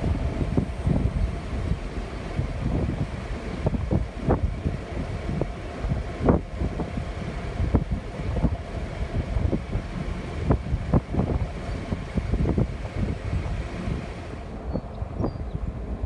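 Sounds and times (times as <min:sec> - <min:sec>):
diesel locomotives running slowly: 0:00.0 - 0:16.0
wind buffeting microphone: 0:00.0 - 0:16.0.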